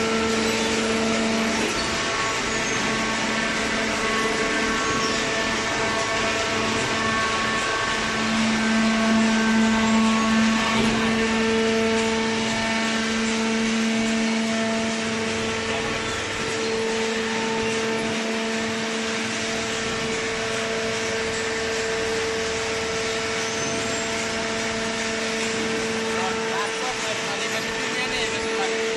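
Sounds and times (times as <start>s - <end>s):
hydraulic motor and pump hum: 0.0s - 28.9s.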